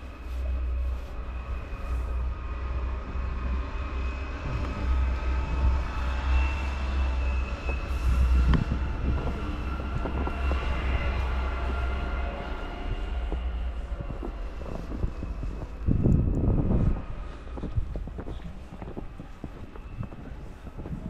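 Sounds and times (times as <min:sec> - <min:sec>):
faint high whine: 0:00.0 - 0:17.5
heavy vehicle rumbling: 0:00.0 - 0:21.0.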